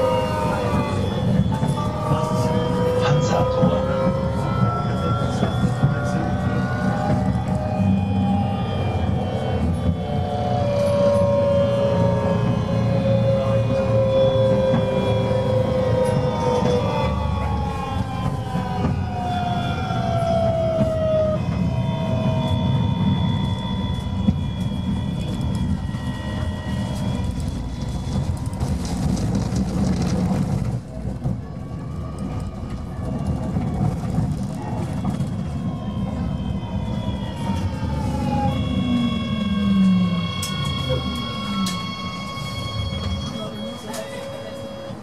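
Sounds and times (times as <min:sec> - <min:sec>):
rushing rail noise: 0:00.0 - 0:45.0
tram electronics whining: 0:00.0 - 0:45.0
wheel and track rumble: 0:00.0 - 0:45.0.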